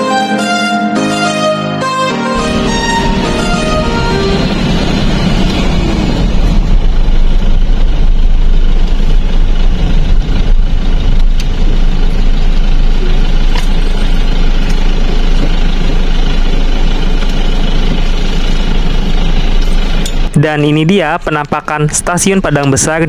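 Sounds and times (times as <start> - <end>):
car engine and road rumble: 2.2 - 23.0.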